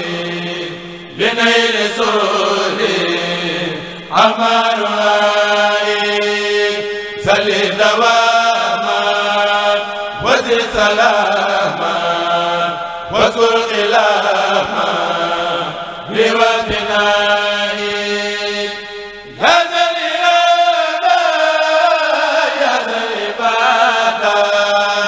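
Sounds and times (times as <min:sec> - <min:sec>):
men chanting unaccompanied: 0:00.0 - 0:25.0.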